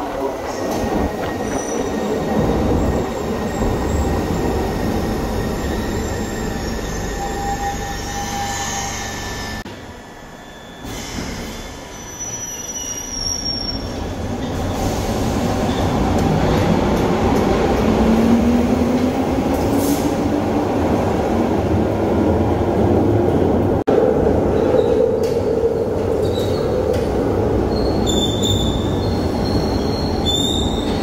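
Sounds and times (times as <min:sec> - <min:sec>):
rising train whine: 0:00.0 - 0:31.0
subway train accelerating: 0:00.0 - 0:31.0.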